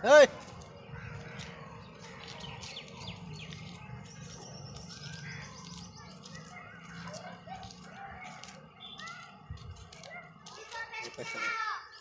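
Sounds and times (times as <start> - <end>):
low outdoor rumble: 0.0 - 10.4
small birds chirping: 0.0 - 12.0.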